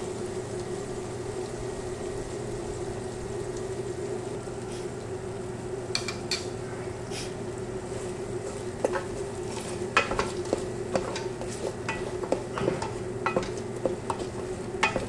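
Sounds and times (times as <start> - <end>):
chicken sizzling: 0.0 - 15.0.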